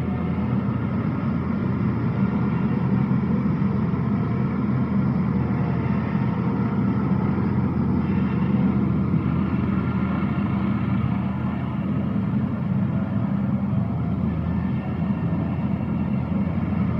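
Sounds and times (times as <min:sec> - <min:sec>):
tractor engine droning: 0:00.0 - 0:16.9.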